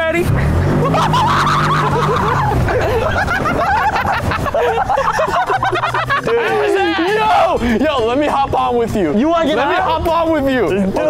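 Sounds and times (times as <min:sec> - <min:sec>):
people laughing and giggling: 0:00.3 - 0:08.6, 0:09.6 - 0:11.0.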